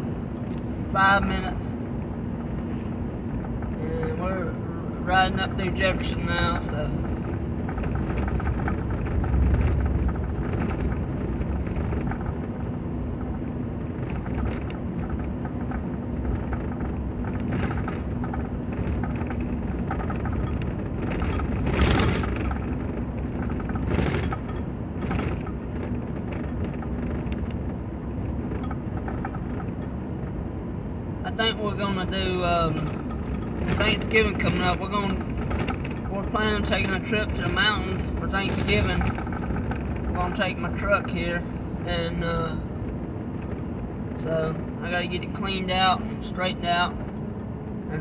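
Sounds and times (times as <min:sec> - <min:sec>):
truck engine and tyres rumbling: 0:00.0 - 0:48.0.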